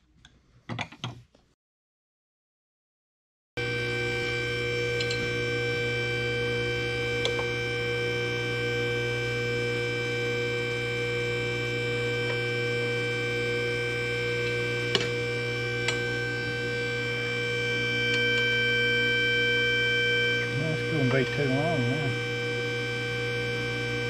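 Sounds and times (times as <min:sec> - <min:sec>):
steady machine hum: 0:03.6 - 0:24.0.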